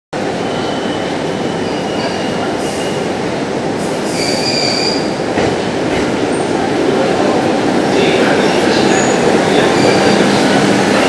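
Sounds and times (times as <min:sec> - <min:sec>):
train rolling rumble: 0:00.2 - 0:11.0.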